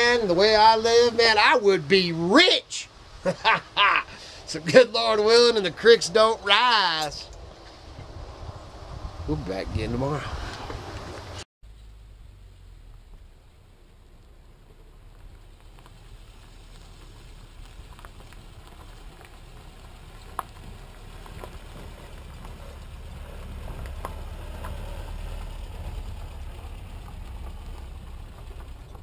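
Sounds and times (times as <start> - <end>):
truck engine rumble: 0.0 - 29.0
tyres crunching gravel: 0.0 - 29.0.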